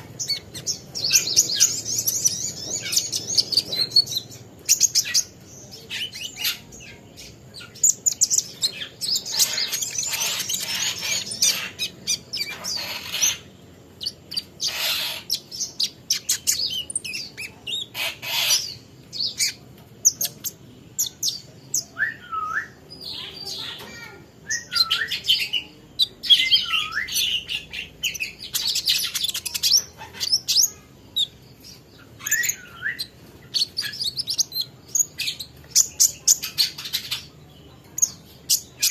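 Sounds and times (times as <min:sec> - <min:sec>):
bird chirping and twittering: 0:00.0 - 0:38.9.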